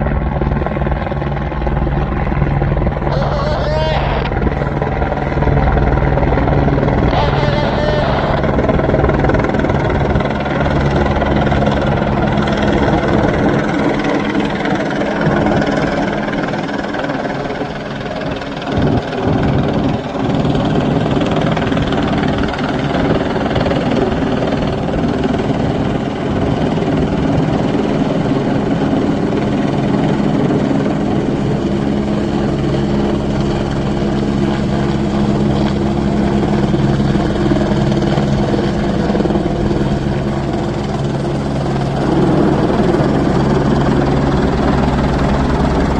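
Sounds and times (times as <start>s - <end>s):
helicopter engine and rotor hum: 0.0s - 45.9s.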